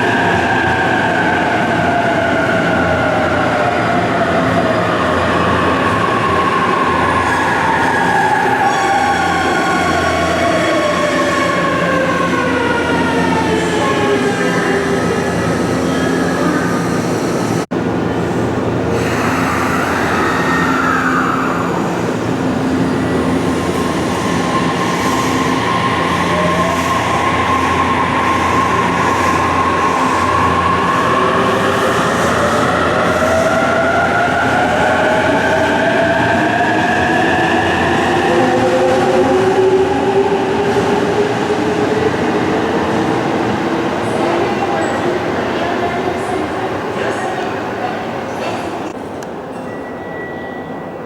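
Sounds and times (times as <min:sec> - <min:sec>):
electric train rumbling: 0:00.0 - 0:51.0.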